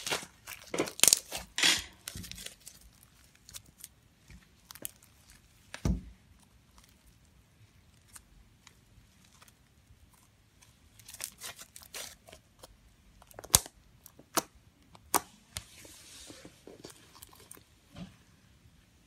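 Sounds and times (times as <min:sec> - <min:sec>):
slime crackling: 0:00.0 - 0:15.7.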